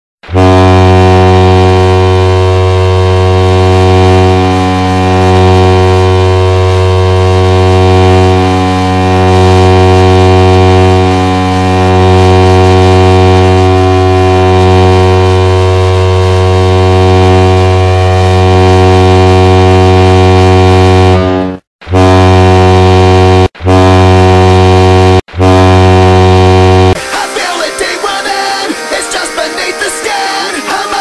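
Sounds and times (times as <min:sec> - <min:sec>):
hockey goal horn blast: 0:00.2 - 0:27.0.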